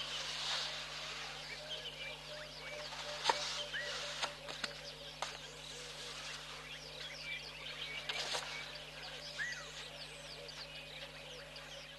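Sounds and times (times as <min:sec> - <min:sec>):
small birds chirping: 0:00.0 - 0:11.9
steady low hum: 0:00.0 - 0:11.9.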